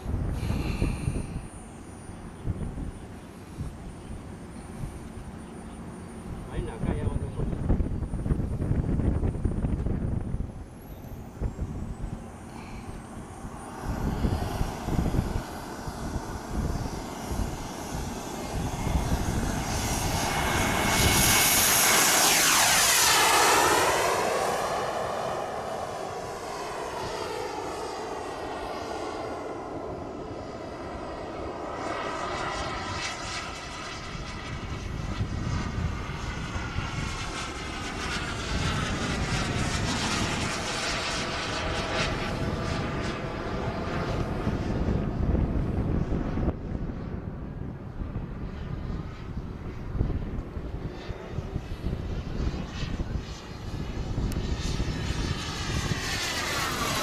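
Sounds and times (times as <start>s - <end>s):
model airplane engine whine: 0.0s - 57.0s.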